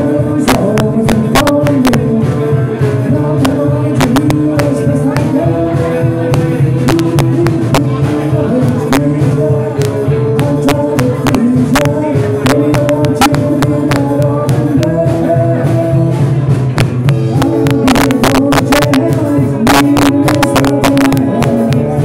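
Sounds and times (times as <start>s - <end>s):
drums with driving beat: 0.0s - 22.0s
electric guitars: 0.0s - 22.0s.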